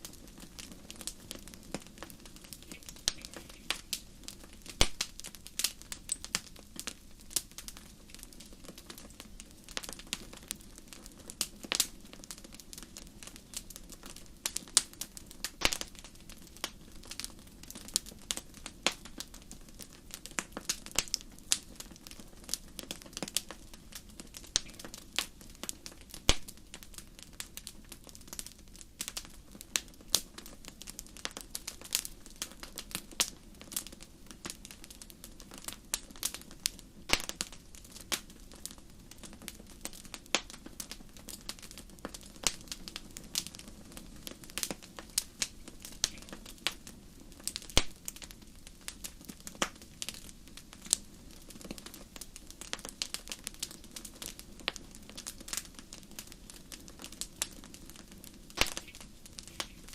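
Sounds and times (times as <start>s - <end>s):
low rush of flames: 0.0s - 59.9s
wood fire crackling and popping: 0.0s - 59.9s.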